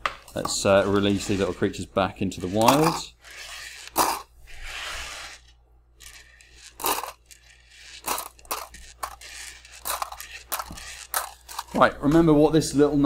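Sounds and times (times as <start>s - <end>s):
balls clicking and knocking: 0.0s - 13.0s
balls sliding on tabletop: 0.1s - 12.3s.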